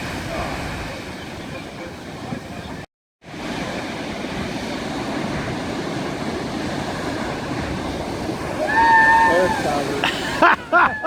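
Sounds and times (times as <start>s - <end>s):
waves breaking against rocks: 0.0s - 11.0s.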